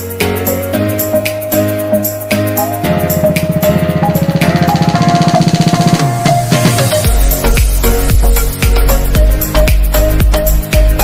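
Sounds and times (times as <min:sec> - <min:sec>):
background music with light beat: 0:00.0 - 0:11.0.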